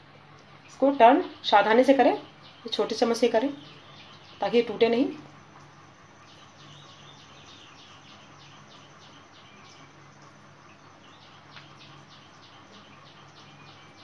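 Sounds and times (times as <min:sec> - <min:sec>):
low steady hum: 0:00.0 - 0:14.0
bird chirping: 0:00.5 - 0:14.0.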